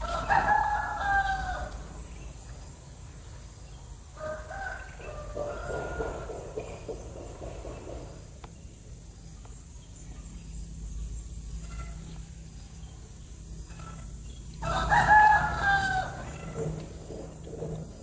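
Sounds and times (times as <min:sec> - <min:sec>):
loud bird call: 0:00.0 - 0:08.3, 0:11.4 - 0:18.0.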